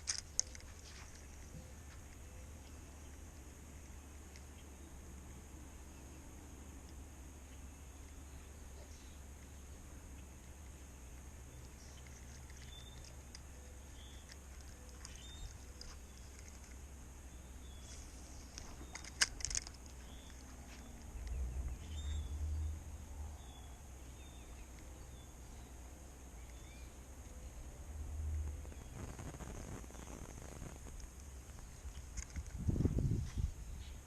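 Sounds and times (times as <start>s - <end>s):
small bird chirping: 0.0s - 34.0s.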